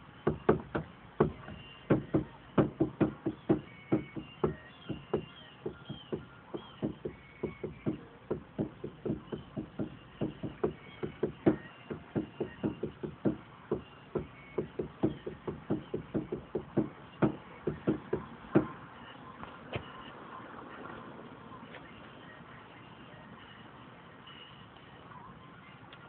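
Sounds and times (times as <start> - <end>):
birds chirping faintly: 0.2 - 23.7.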